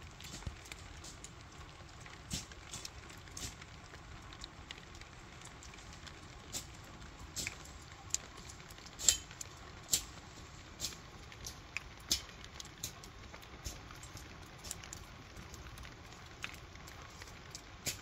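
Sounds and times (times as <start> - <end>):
light rain: 0.0 - 18.0.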